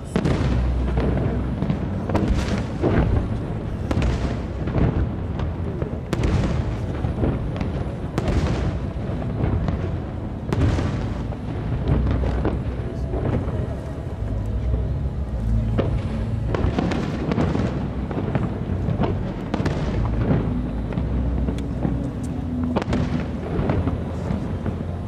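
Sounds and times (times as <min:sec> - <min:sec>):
fireworks booms and bangs: 0:00.0 - 0:25.0
low echo: 0:00.0 - 0:25.0.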